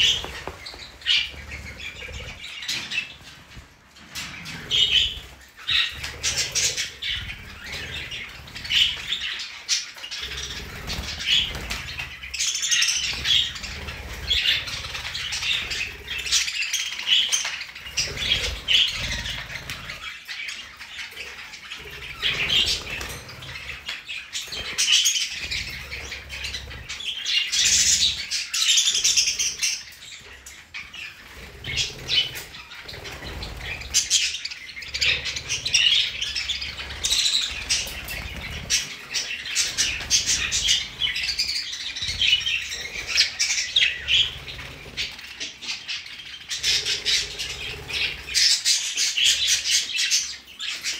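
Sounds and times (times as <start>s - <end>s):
budgerigars chattering: 0.0s - 3.3s, 4.1s - 50.9s.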